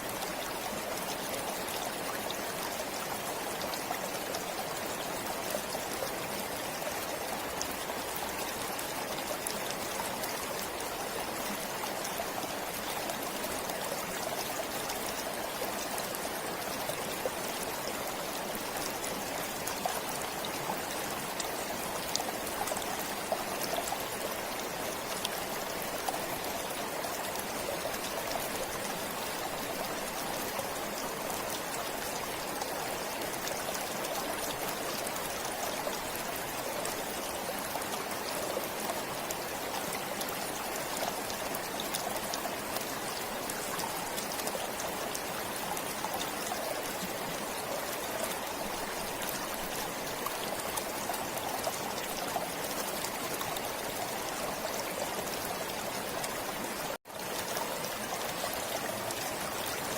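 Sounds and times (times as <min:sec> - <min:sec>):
small splashes and trickles: 0:00.0 - 0:59.9
stream flowing: 0:00.0 - 0:59.9.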